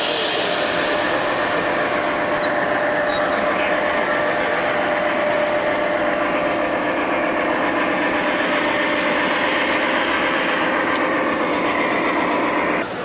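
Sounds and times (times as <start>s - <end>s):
model diesel locomotive idling: 0.0s - 13.0s.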